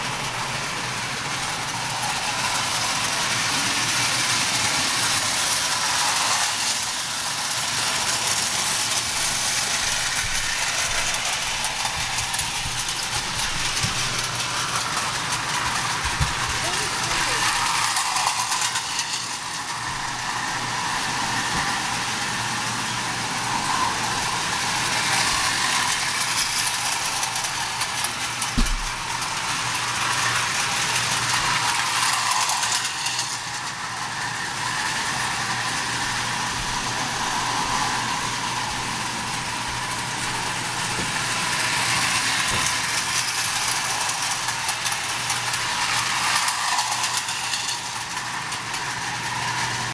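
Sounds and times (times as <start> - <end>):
steady motor hum: 0.0 - 49.9
toy train wheels clattering on rails: 0.0 - 49.9.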